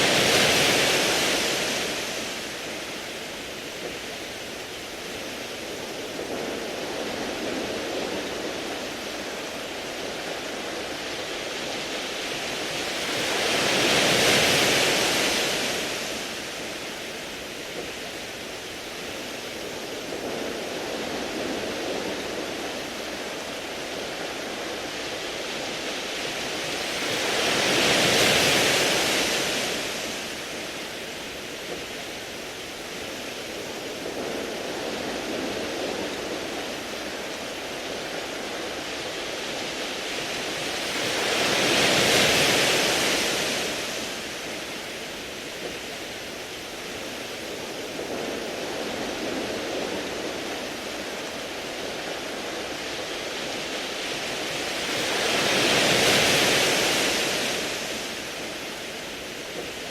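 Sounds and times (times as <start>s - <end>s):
waves washing onto pebbles: 0.0s - 59.9s.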